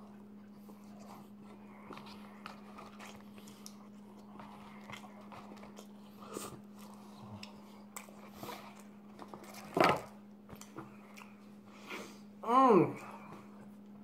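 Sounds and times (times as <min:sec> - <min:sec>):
man chewing food: 0:00.0 - 0:12.4
steady low hum: 0:00.0 - 0:14.0.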